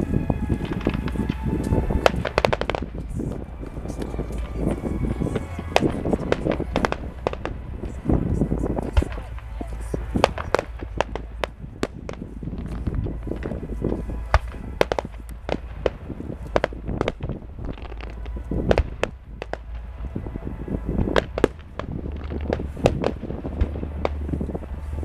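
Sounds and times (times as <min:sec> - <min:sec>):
fireworks bangs and cracks: 0:00.0 - 0:25.0
low rumble: 0:00.0 - 0:25.0.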